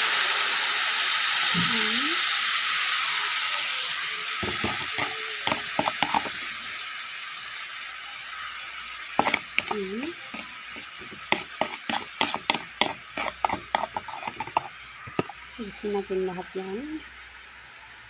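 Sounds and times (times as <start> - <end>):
sauce sizzling in a hot pan: 0.0 - 18.0.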